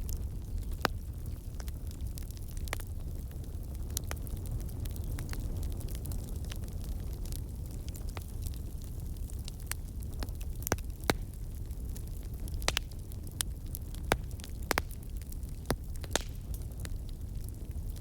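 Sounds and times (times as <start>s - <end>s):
low rumble of flames: 0.0s - 18.0s
sharp pops from fire: 0.0s - 18.0s
wood fire crackling: 0.0s - 18.0s.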